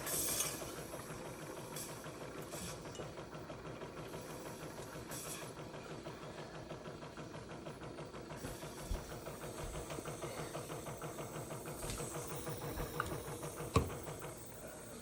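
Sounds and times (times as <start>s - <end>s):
coffee maker pump pulsing: 0.0s - 15.0s.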